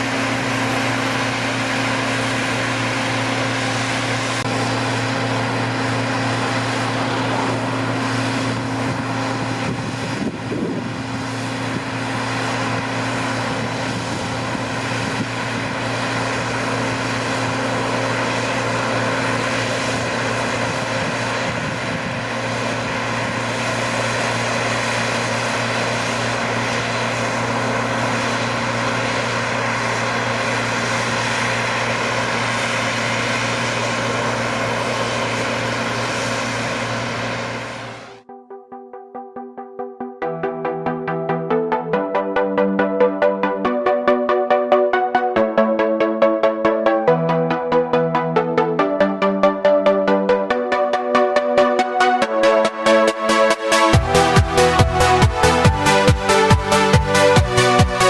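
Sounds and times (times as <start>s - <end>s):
diesel engine low drone: 0.0s - 58.0s.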